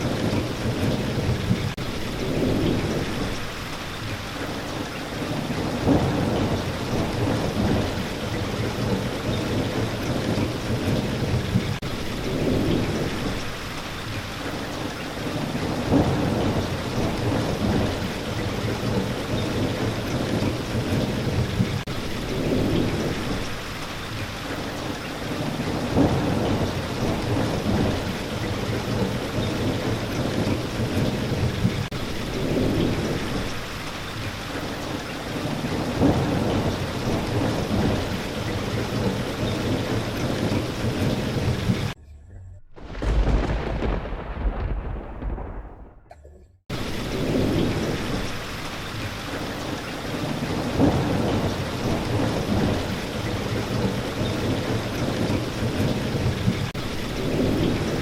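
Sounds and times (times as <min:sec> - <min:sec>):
steady rainfall: 0:00.0 - 0:42.0, 0:42.8 - 0:46.1, 0:46.7 - 0:58.0
thunder rumbling: 0:00.0 - 0:58.0.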